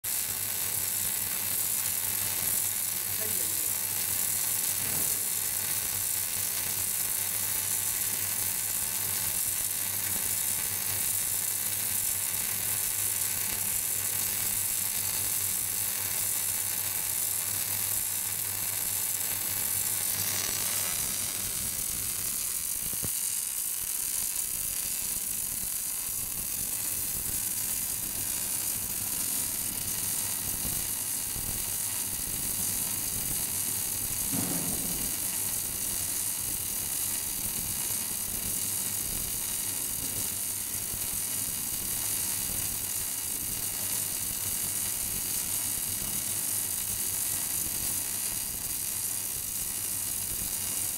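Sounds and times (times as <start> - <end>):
welding arc sizzling and crackling: 0.0 - 50.9.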